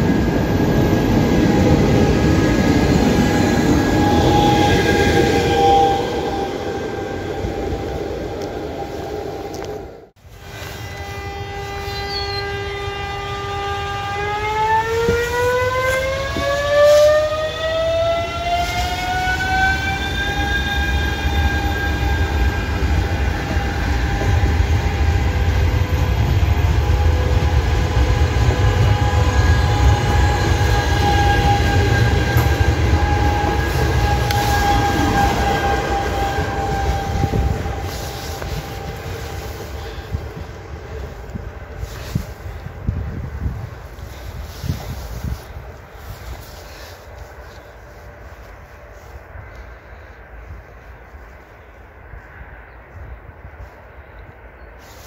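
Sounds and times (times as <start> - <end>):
electric train drive whining: 0.0 - 48.6
wheels rumbling on rail: 0.0 - 55.0.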